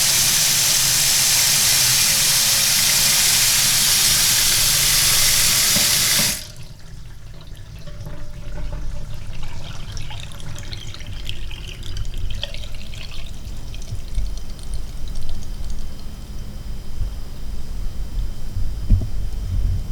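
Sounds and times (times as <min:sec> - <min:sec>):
water tap running: 0:00.0 - 0:16.0.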